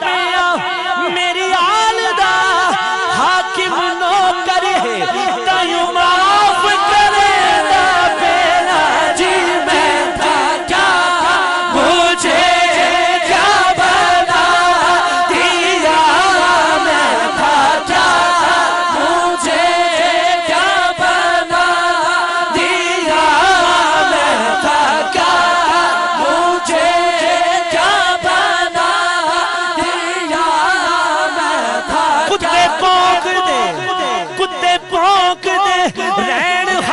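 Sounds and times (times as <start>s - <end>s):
men's voices droning: 0.0s - 36.9s.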